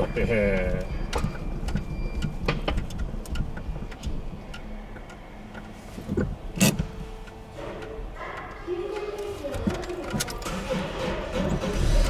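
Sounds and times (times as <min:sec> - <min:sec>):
car body clicks and rattles: 0:00.2 - 0:12.0.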